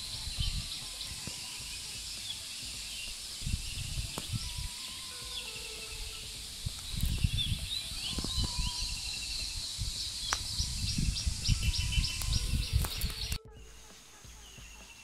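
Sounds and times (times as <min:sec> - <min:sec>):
wind on microphone: 0:00.0 - 0:13.8
birds chirping: 0:00.0 - 0:15.0.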